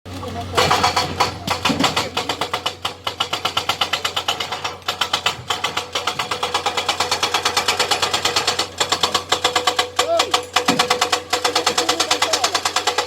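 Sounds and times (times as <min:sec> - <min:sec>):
hydraulic rock breaker hammering: 0:00.1 - 0:13.0
machine engine hum: 0:00.1 - 0:13.0.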